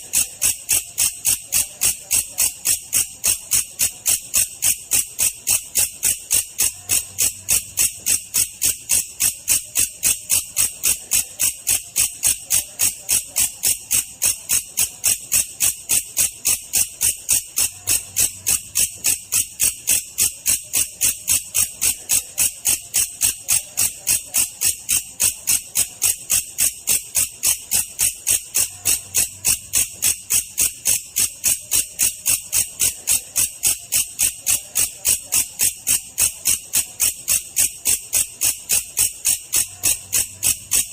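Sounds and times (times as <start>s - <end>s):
katydid rapid high chirps: 0.0s - 40.9s.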